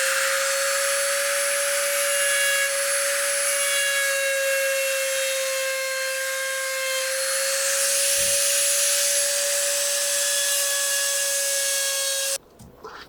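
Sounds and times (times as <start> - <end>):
rotary tool whining on wood: 0.0 - 12.4.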